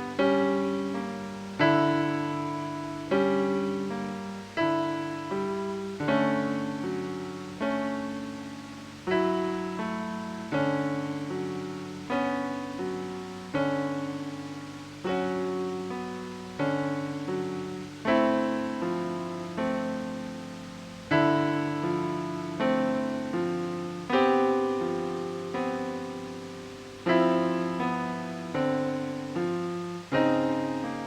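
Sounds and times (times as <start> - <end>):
slow piano chords: 0.0 - 31.0.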